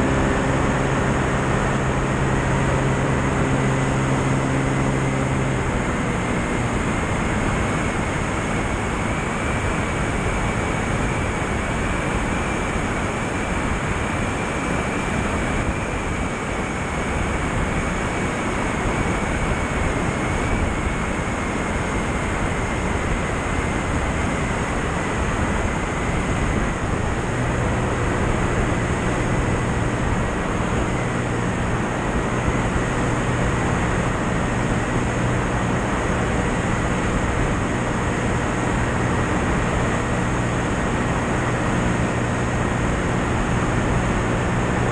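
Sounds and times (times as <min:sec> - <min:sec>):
airflow rushing over microphone: 0:00.0 - 0:44.9
low hum: 0:00.0 - 0:44.9.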